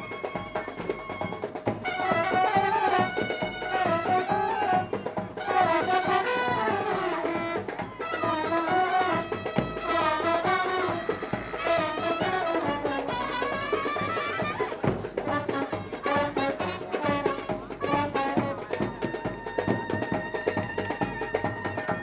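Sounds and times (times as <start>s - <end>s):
drums beating: 0.0s - 22.0s
horns playing melody: 1.8s - 22.0s.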